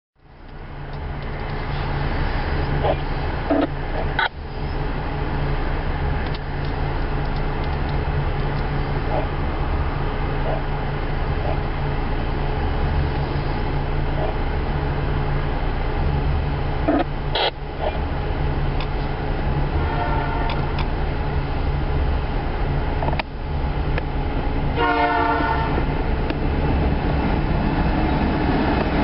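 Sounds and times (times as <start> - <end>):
diesel locomotive engines droning: 0.2 - 29.0.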